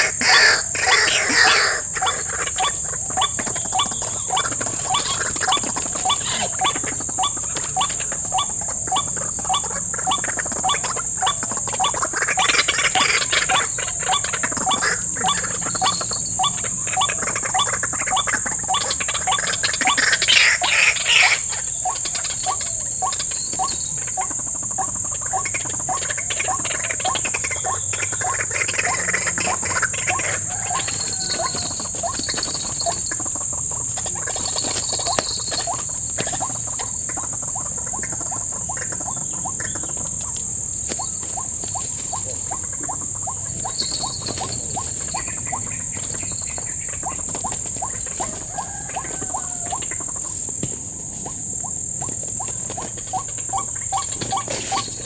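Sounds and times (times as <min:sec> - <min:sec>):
insects trilling: 0:00.0 - 0:55.0
short rapid insect calls: 0:00.0 - 0:55.0.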